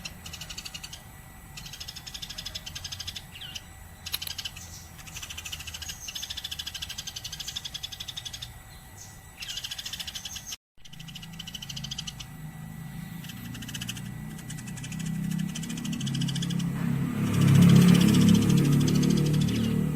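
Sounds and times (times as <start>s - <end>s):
sparrow chirping: 0.0s - 19.9s.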